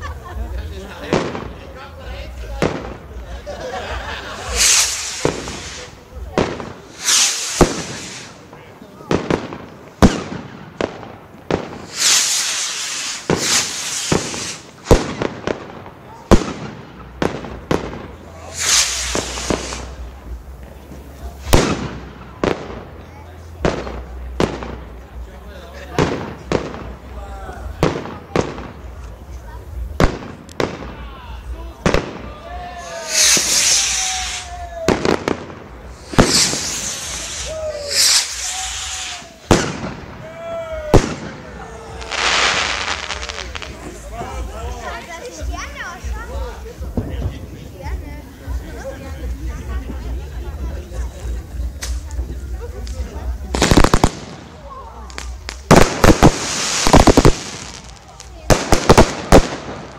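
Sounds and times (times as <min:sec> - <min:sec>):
long firework hiss: 0:00.0 - 0:59.9
firework bangs: 0:00.2 - 0:59.9.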